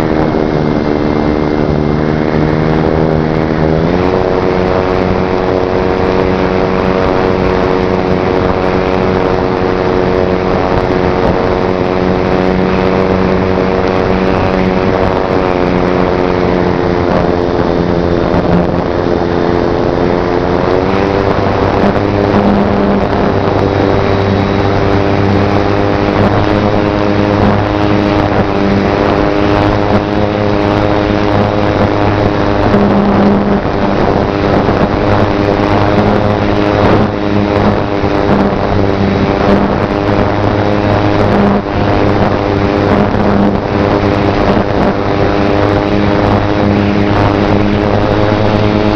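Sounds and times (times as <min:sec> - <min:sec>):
electric motor and propeller whining: 0:00.0 - 0:48.9
wind noise: 0:00.0 - 0:48.9.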